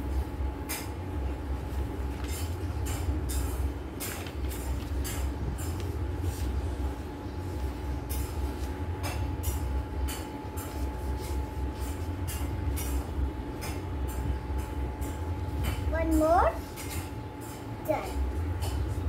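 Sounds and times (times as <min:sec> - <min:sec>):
low hum with faint whine: 0:00.0 - 0:19.0.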